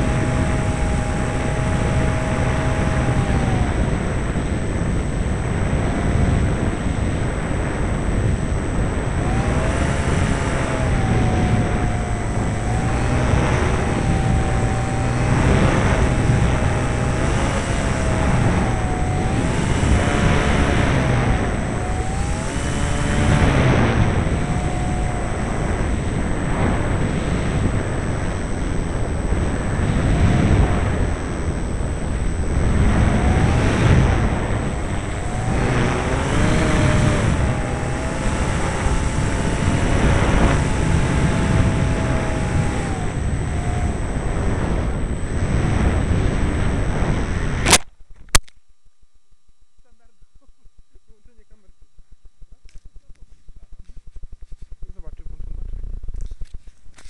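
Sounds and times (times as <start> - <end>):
model plane motor whine: 0.0 - 48.5, 51.1 - 57.0
wind noise on microphone: 0.0 - 48.5.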